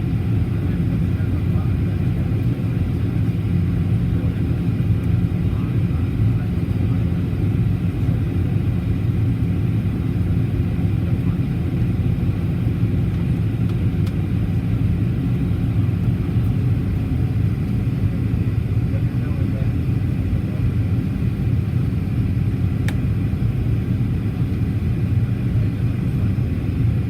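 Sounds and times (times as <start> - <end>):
airplane cabin drone: 0.0 - 27.0.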